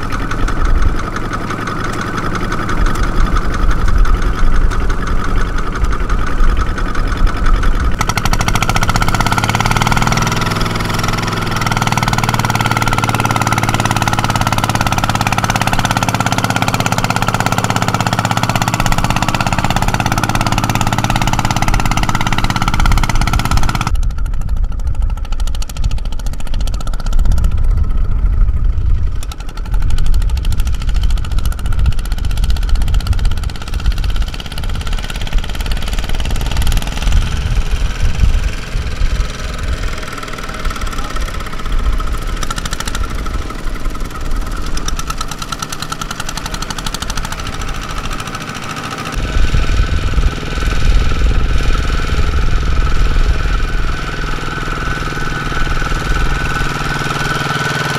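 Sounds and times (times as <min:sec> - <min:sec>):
farm machine engine knocking: 0:00.0 - 0:57.9.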